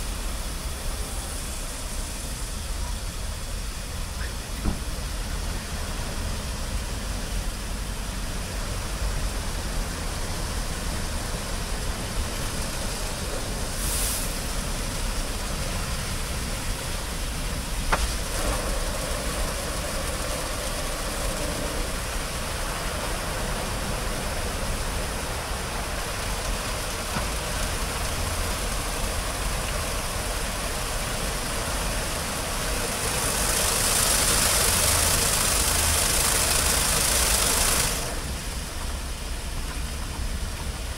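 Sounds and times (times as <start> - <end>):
car wash motors and brushes: 0.0 - 40.9
water spraying: 7.8 - 40.9.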